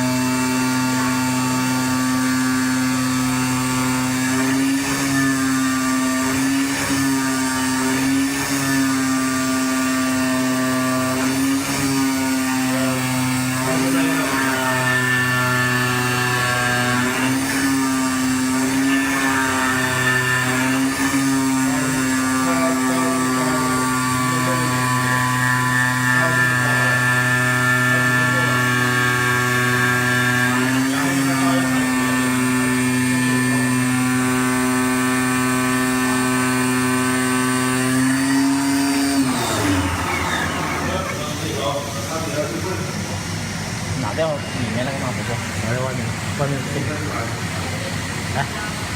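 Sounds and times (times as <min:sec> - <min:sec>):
motor whining: 0:00.0 - 0:48.9.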